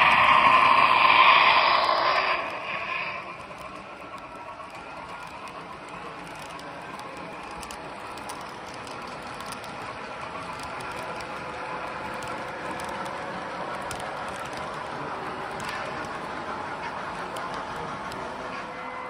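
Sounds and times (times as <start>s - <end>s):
model train cars rolling on track: 0.0s - 19.0s.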